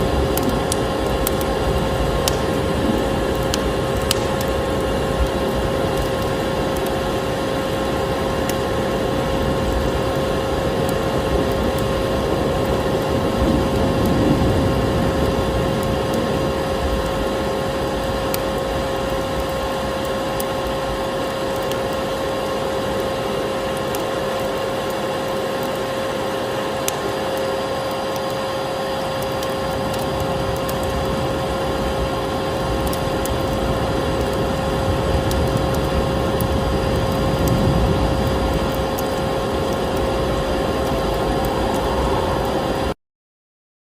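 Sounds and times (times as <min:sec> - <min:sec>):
fire pops: 0:00.0 - 0:25.8, 0:26.8 - 0:42.9
wood fire crackling: 0:00.0 - 0:43.0.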